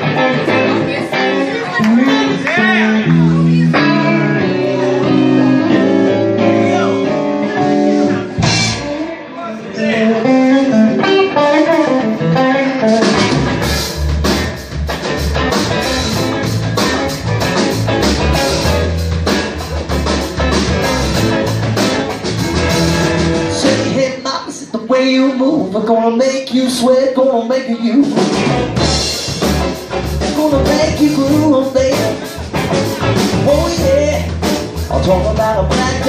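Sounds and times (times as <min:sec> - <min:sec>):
bass guitar: 0:00.0 - 0:24.3, 0:27.9 - 0:36.0
electric guitar with bent notes: 0:00.0 - 0:24.3, 0:28.0 - 0:36.0
drums: 0:00.0 - 0:36.0.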